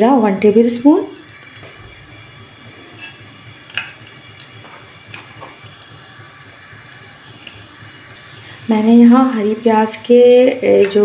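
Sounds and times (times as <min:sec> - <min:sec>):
seeds sizzling in hot oil: 0:00.8 - 0:11.0.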